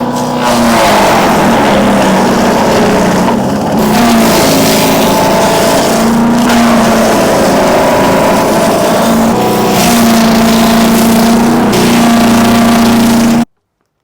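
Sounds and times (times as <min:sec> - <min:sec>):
steady rushing noise: 0:00.0 - 0:13.4
wood chipper engine running: 0:00.0 - 0:13.5.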